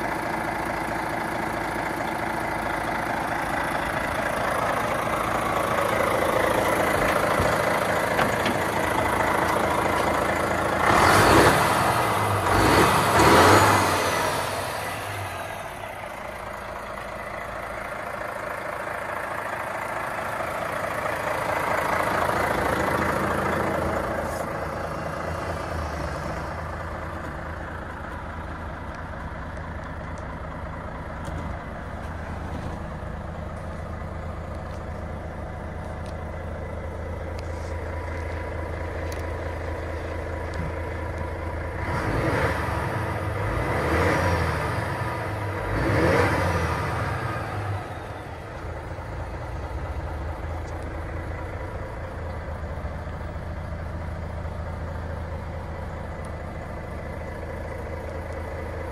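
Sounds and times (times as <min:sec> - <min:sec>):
truck diesel engine idling and revving: 0:00.0 - 0:58.9.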